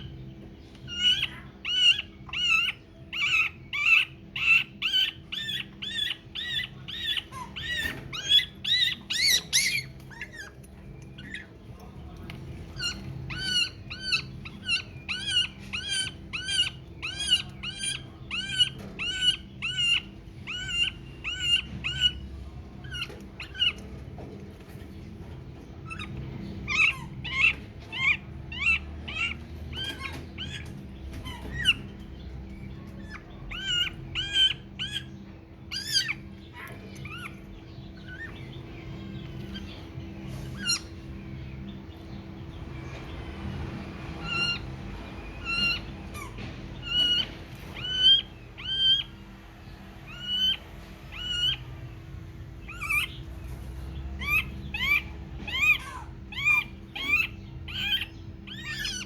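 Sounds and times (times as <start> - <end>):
baby bird chirping: 0.0 - 59.0
low steady hum: 0.0 - 59.0.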